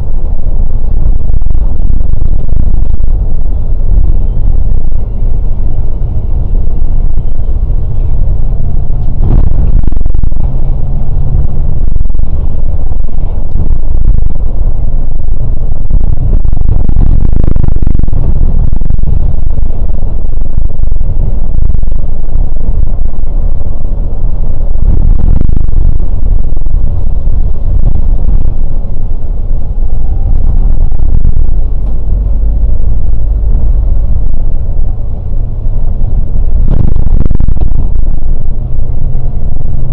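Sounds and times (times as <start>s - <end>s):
coach engine: 0.0s - 39.9s
road rumble: 0.0s - 39.9s.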